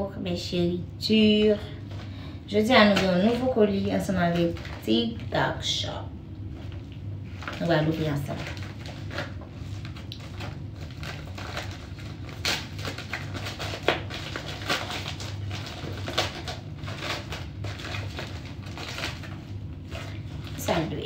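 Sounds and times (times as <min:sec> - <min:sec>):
steady low hum: 0:00.0 - 0:21.0
plastic bag crinkling: 0:02.8 - 0:05.4, 0:06.5 - 0:21.0.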